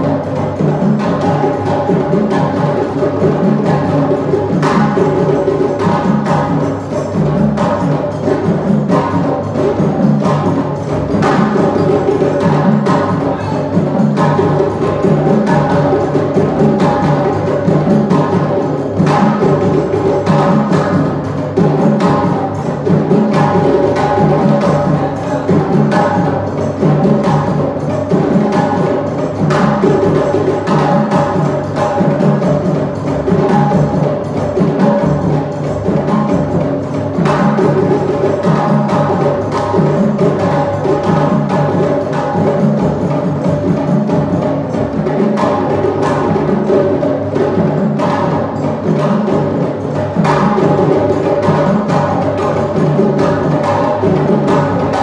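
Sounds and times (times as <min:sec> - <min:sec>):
drums in fast driving rhythm: 0:00.0 - 0:55.0.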